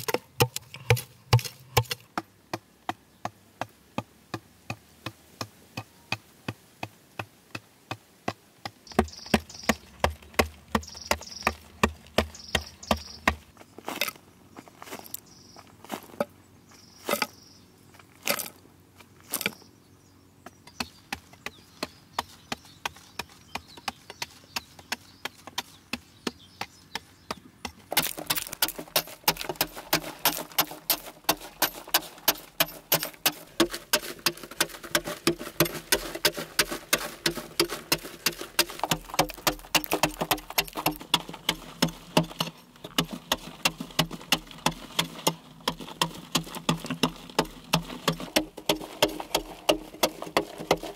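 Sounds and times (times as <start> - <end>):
digging tool striking earth: 0.0 - 14.2, 17.0 - 17.4, 18.2 - 18.6, 19.2 - 19.6, 20.7 - 50.9.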